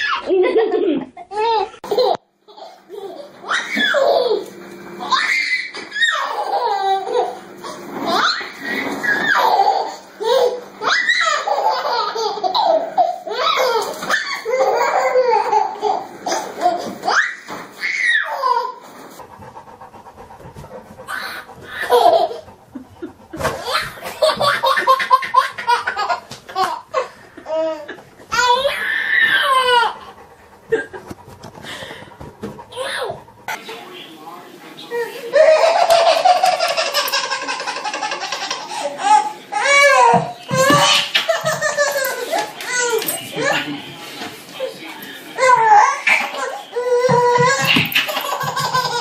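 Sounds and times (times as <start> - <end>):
babies laughing: 0.0 - 33.9, 34.9 - 44.0, 45.3 - 49.0.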